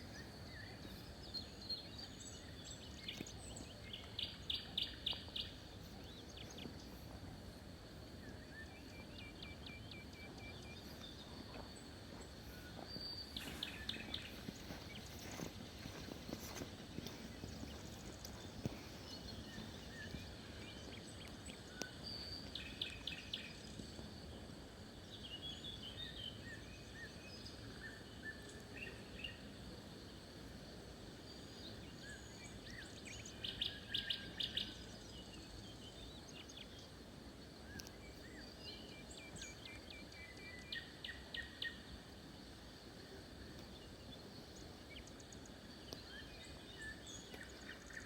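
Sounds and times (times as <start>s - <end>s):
small birds chirping and trilling: 0.0s - 30.4s, 31.0s - 48.0s
faint background hiss: 0.0s - 48.0s.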